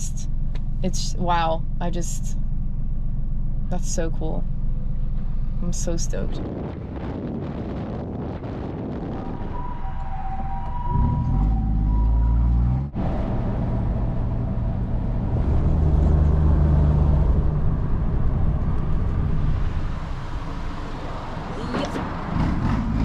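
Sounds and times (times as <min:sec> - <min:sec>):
van engine and road noise: 0:00.0 - 0:23.0.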